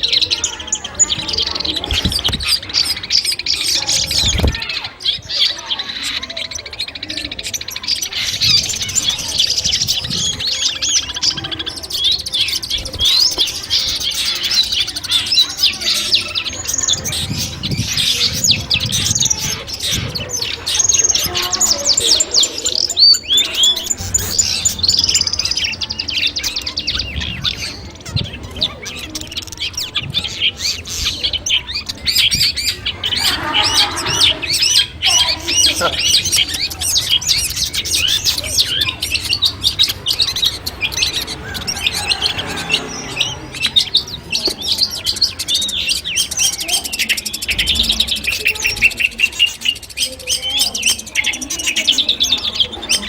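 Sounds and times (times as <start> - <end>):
bird singing chirps and trills: 0.0 - 53.0.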